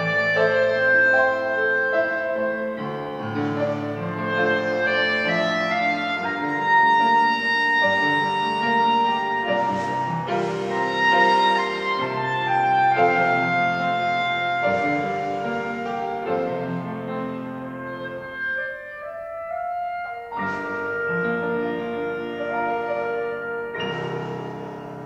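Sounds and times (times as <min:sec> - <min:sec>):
clarinet melody: 0:00.0 - 0:25.0
piano accompaniment: 0:00.0 - 0:25.0.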